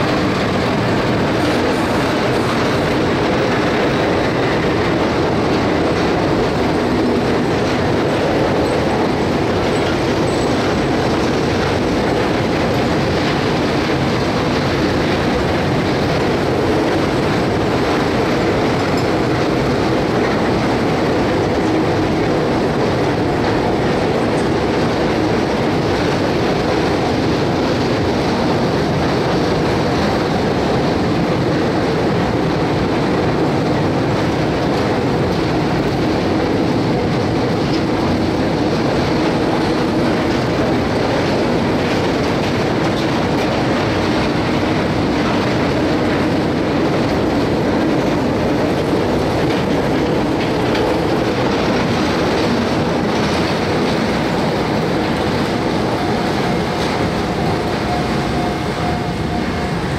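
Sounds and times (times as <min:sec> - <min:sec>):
train wheels rolling on track: 0:00.0 - 0:59.9.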